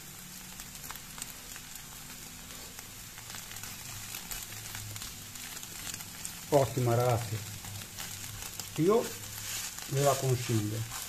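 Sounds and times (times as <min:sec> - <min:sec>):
eggs sizzling in a pan: 0:00.0 - 0:11.0
faint crackles: 0:00.0 - 0:11.0.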